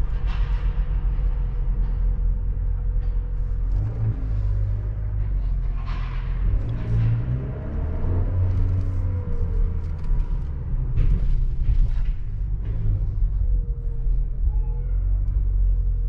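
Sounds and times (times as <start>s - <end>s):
engine and exhaust low rumble: 0.0s - 16.0s.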